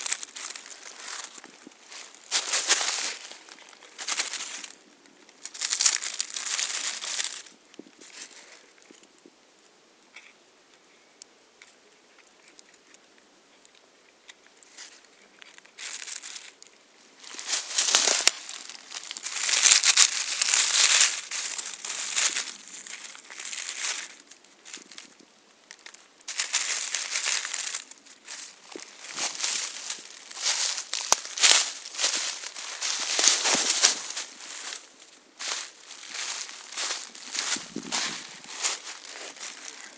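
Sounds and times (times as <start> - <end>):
dry leaves rustling and crackling: 0.0 - 9.0, 14.6 - 39.9.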